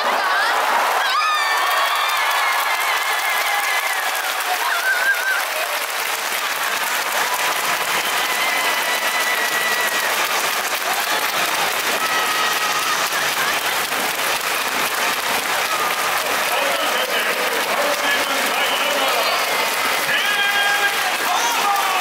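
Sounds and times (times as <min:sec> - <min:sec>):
stadium crowd clapping and cheering: 0:00.0 - 0:22.0.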